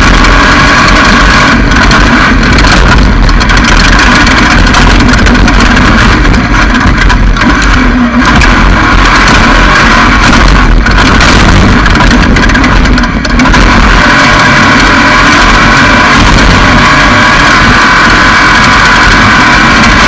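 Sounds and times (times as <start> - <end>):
race vehicle engine revving high: 0.0 - 20.0.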